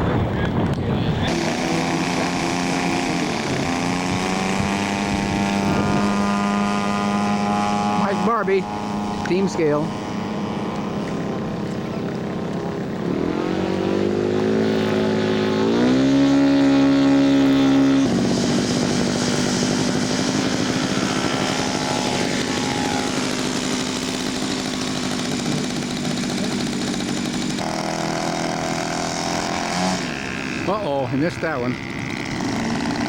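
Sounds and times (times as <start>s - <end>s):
model airplane engine: 0.0s - 33.0s.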